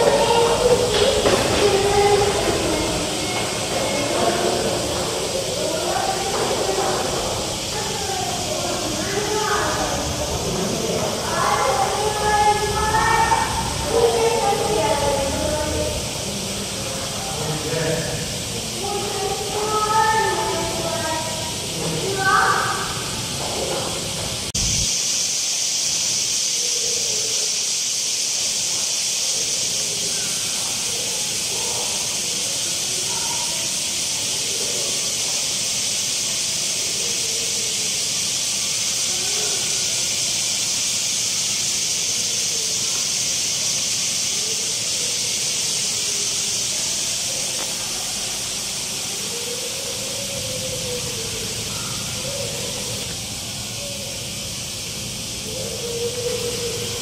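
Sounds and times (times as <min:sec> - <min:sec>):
high-pitched hiss: 0:00.0 - 0:57.0.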